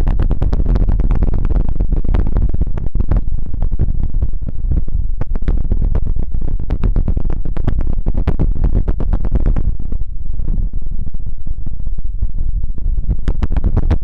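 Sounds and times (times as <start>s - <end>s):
deep rumble: 0.0s - 14.0s.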